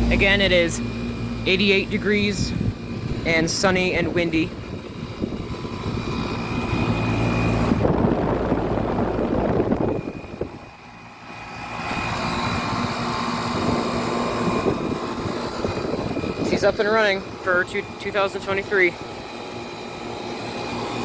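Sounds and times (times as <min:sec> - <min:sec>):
air conditioner compressor hum: 0:00.0 - 0:21.0
wind buffeting microphone: 0:02.0 - 0:20.5.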